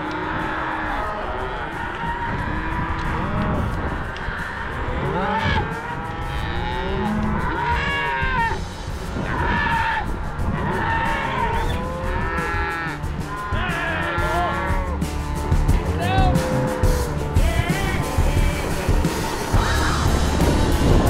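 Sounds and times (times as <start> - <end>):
cows and calves bawling: 0.0 - 21.0.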